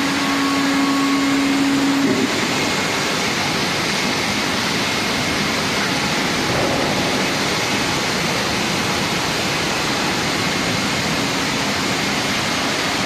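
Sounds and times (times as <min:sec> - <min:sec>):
steady rushing noise: 0:02.3 - 0:13.0.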